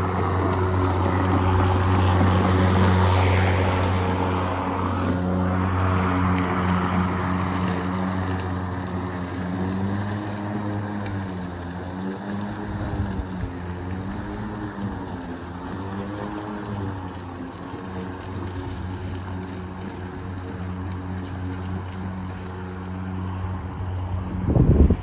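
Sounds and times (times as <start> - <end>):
lawn mower running: 0.0 - 25.0.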